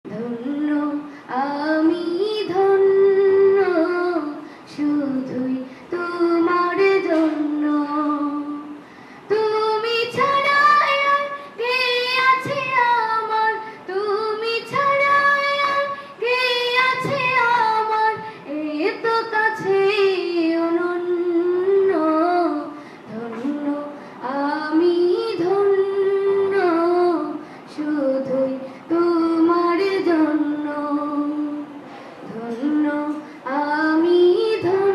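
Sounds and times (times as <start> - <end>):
woman singing unaccompanied: 0.1 - 34.9.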